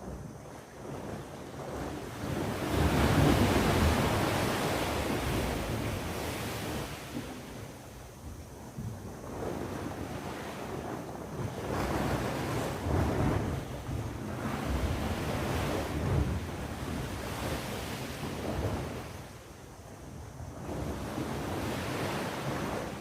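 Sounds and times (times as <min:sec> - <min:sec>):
sea waves washing on shore: 0:00.0 - 0:23.0
wind rumbling on microphone: 0:00.0 - 0:23.0.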